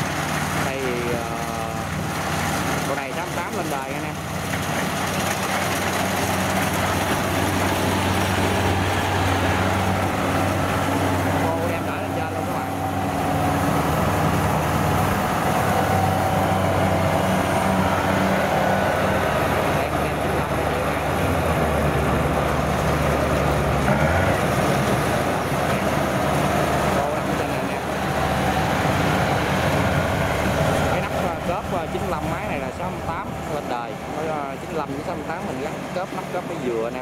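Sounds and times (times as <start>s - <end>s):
combine harvester engine running: 0.0s - 37.0s.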